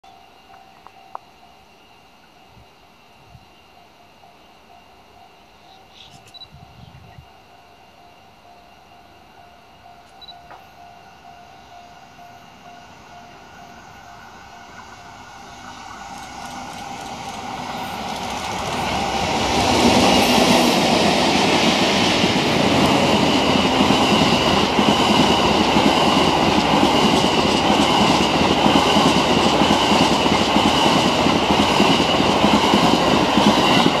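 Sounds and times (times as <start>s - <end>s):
passing train rumble: 6.6s - 34.0s.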